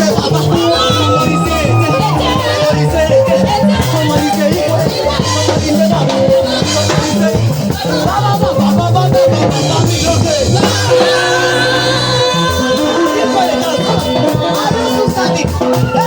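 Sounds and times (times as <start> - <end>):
bouncing bass line: 0.0 - 16.0
keyboard: 0.0 - 16.0
singing: 0.0 - 16.0.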